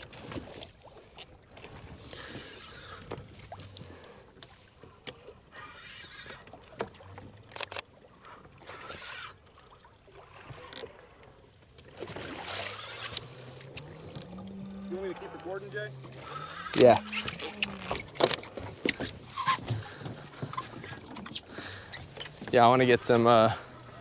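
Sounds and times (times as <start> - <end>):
water splashing against boat hull: 0.0 - 24.0.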